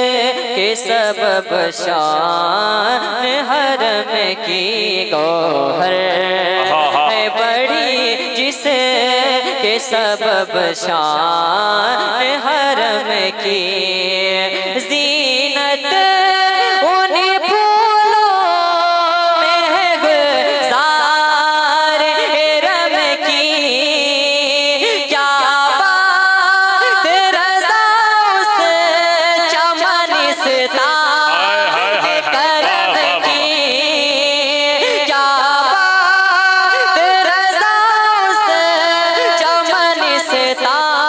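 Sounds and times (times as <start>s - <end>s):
man singing devotional song: 0.0s - 41.0s.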